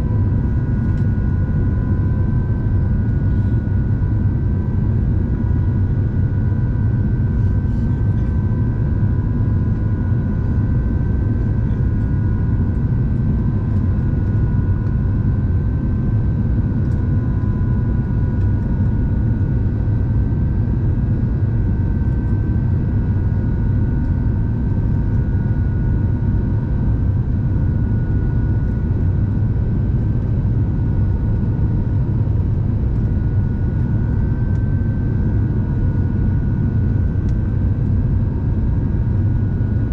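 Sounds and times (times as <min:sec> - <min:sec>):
aircraft cabin rumble: 0:00.0 - 0:39.9
jet engine two-tone whine: 0:00.0 - 0:39.9.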